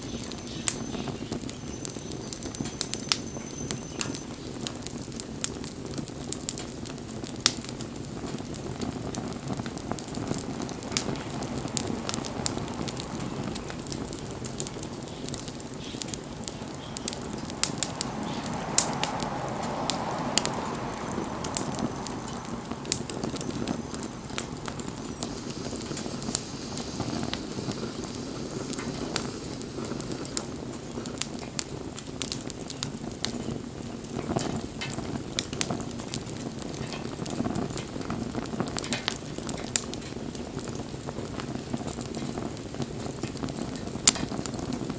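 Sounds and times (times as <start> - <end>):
campfire crackling and popping: 0.0 - 44.9
low rush of flames: 0.0 - 44.9.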